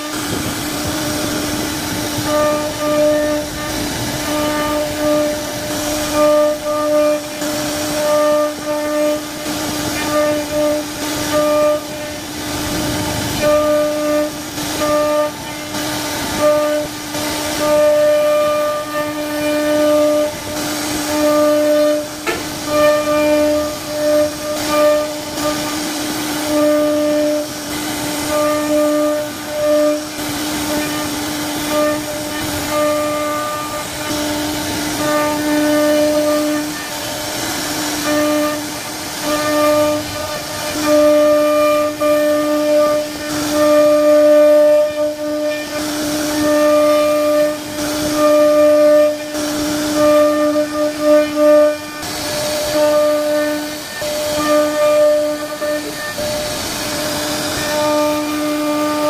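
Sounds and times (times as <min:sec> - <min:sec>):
hiss of cutting wood: 0:00.0 - 0:59.0
router spindle whining: 0:00.0 - 0:59.0.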